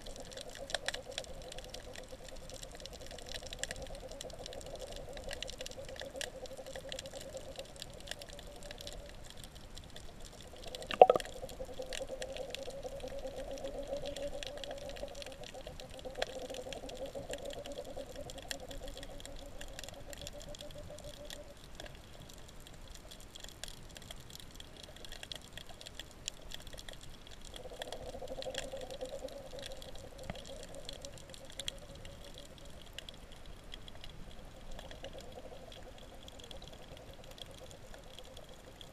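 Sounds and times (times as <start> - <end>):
underwater crackle of clicks: 0.0 - 38.9.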